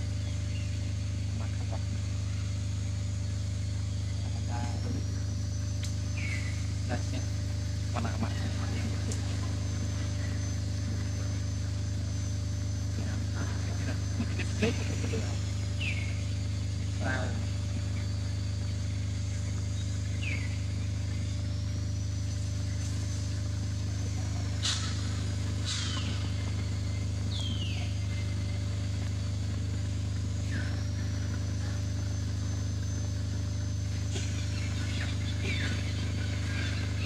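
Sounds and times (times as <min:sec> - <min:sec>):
faint high whine: 0:00.0 - 0:37.0
steady low hum: 0:00.0 - 0:37.0.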